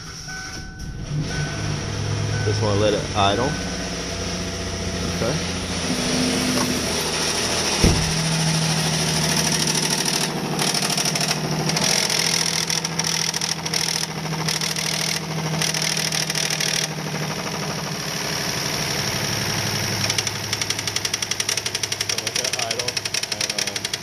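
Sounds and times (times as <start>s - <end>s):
van engine idling: 0.0s - 24.0s
fast light engine ticking: 1.9s - 24.0s.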